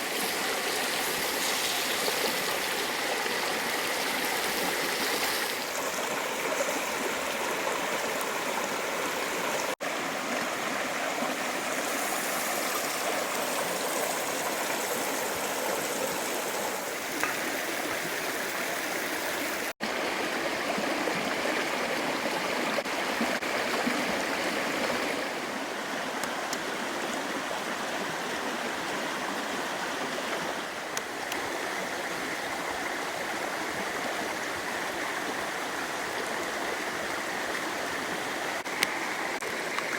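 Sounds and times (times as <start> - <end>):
creek water over rocks: 0.0 - 39.9.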